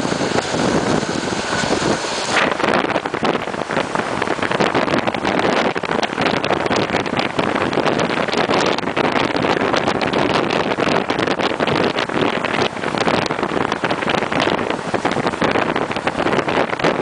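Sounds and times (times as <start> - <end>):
train carriage rattling on track: 0.0 - 17.0
wind rushing on microphone: 0.0 - 17.0.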